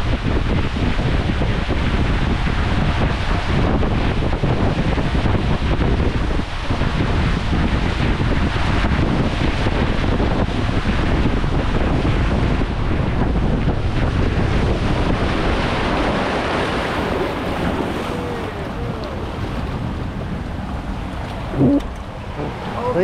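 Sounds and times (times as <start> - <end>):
rushing water: 0.0 - 23.0
wind buffeting microphone: 0.0 - 23.0.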